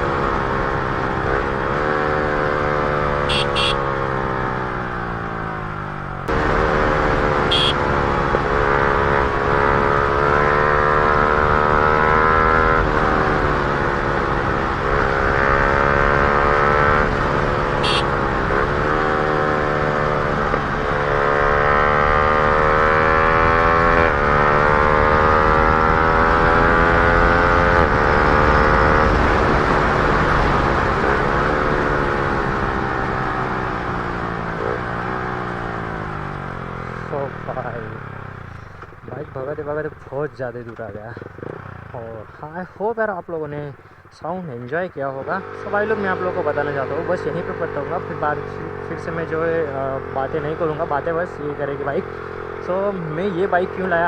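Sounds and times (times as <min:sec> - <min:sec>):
motorcycle engine accelerating: 0:00.0 - 0:42.5, 0:45.2 - 0:54.0.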